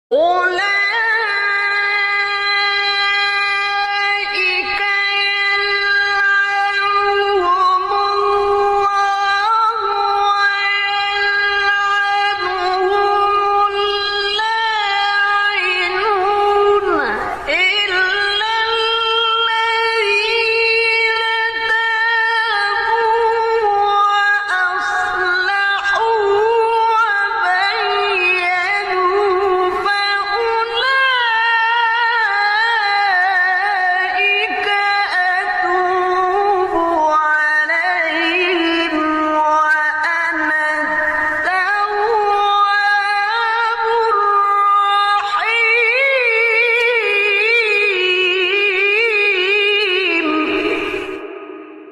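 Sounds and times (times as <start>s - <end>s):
person reciting melodically: 0.1s - 51.2s.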